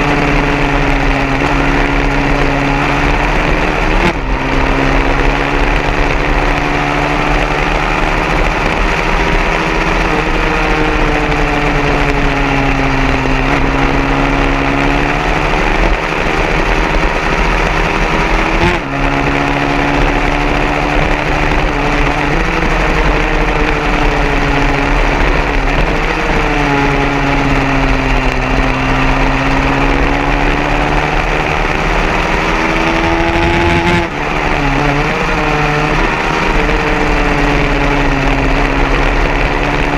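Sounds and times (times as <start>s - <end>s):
low engine drone: 0.0s - 39.9s
racing motorcycle engine revving: 0.0s - 39.9s.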